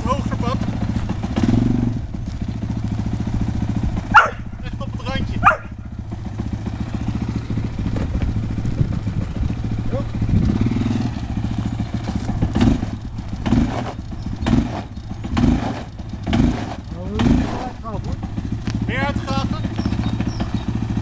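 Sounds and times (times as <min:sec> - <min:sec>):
quad bike engine under load: 0:00.0 - 0:21.0.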